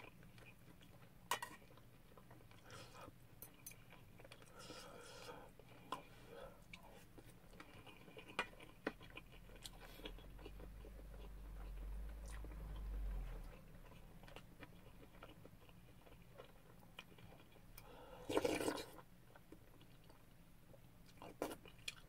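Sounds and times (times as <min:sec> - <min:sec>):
person chewing: 0:00.0 - 0:22.0.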